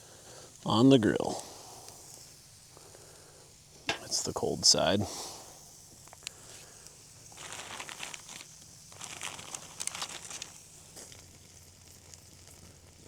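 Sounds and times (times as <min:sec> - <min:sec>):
fire crackling under grill: 0:00.0 - 0:13.0.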